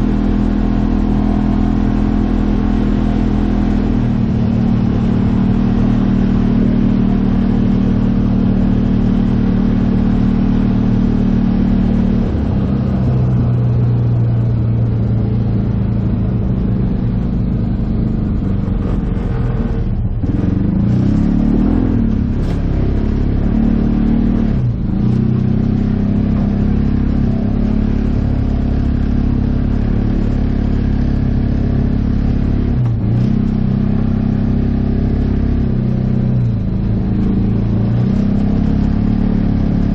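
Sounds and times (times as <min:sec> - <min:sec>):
utility vehicle engine running: 0:00.0 - 0:39.9.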